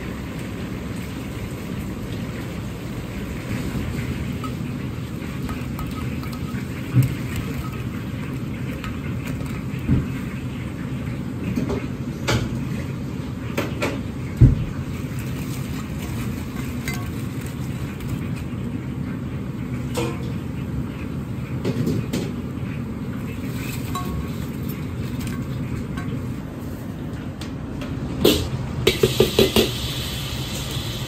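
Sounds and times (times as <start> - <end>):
restaurant kitchen roar: 0.0 - 31.0.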